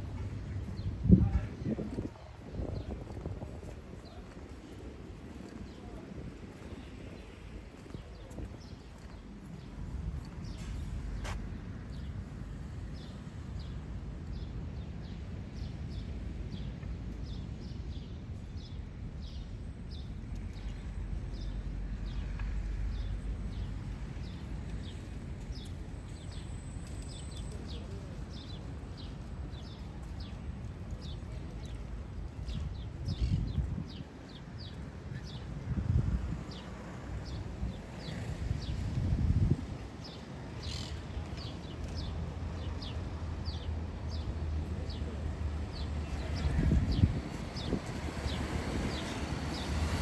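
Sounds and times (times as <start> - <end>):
low wind gust: 0.0 - 50.0.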